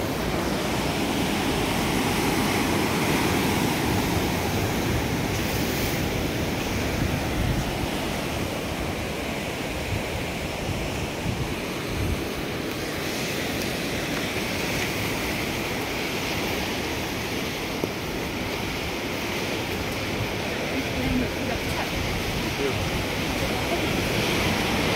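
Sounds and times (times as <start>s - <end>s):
surf breaking over rocks: 0.0s - 24.9s
wind rumbling on microphone: 0.0s - 24.9s.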